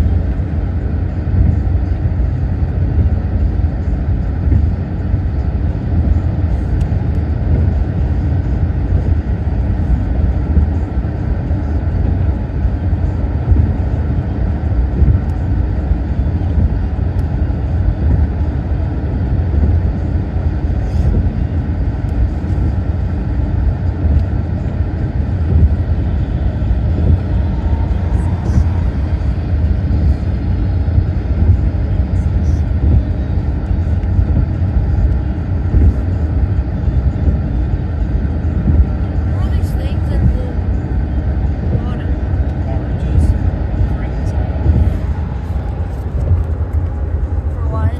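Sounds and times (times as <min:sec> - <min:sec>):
car road and engine rumble: 0:00.0 - 0:47.9.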